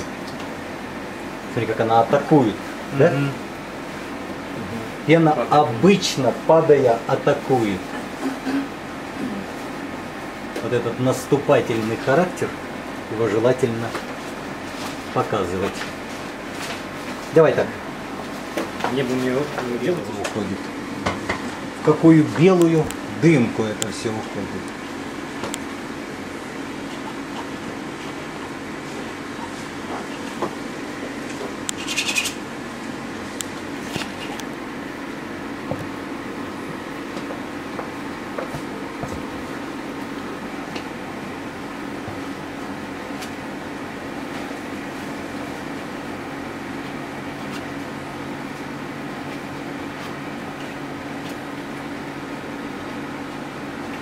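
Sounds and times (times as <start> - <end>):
room hum: 0.0 - 54.0.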